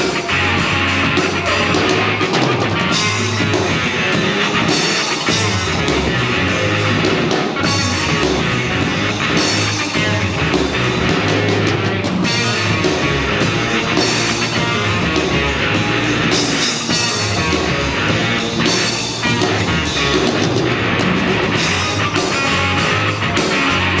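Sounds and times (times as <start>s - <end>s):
rock band playing instrumental: 0.0s - 24.0s.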